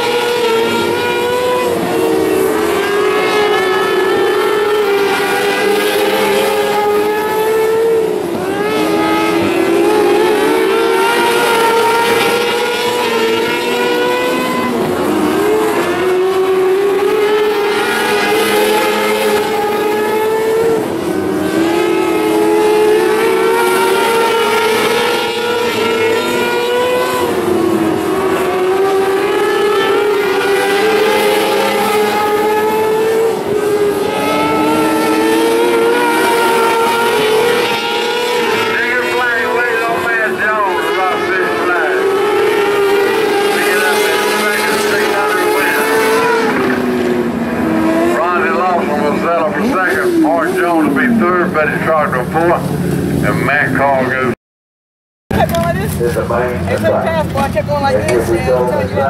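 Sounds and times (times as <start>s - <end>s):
racing car engines revving: 0.0s - 54.4s, 55.3s - 59.0s.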